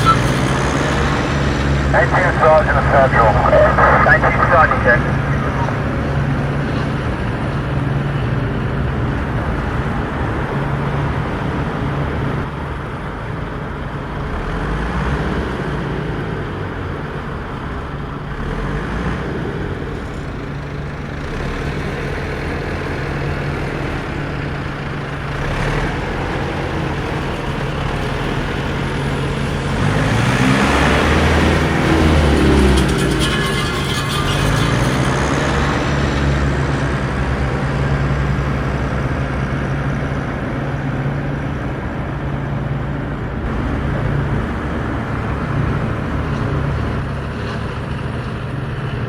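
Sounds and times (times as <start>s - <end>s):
engine revving: 0.0s - 49.0s.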